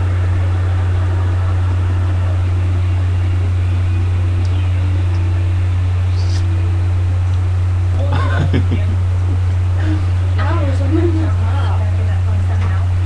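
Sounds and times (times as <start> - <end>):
loud low hum: 0.0 - 13.0.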